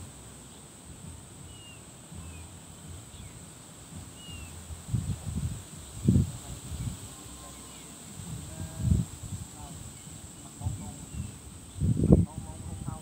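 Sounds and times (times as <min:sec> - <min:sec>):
bird chirping: 0:00.3 - 0:09.0, 0:09.6 - 0:13.0.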